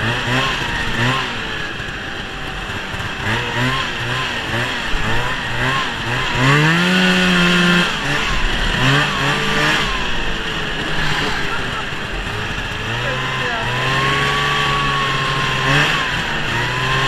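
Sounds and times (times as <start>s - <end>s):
snowmobile engine running: 0.0s - 17.0s.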